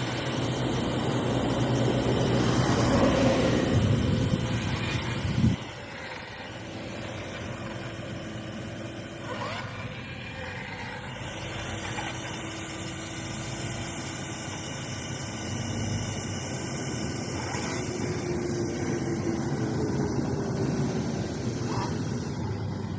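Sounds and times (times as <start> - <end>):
toy excavator motor whining: 0.0 - 22.9.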